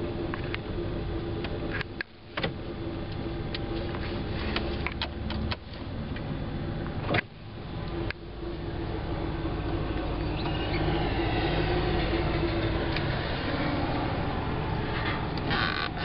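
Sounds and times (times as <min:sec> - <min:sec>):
van engine hum and rumble: 0:00.0 - 0:16.0.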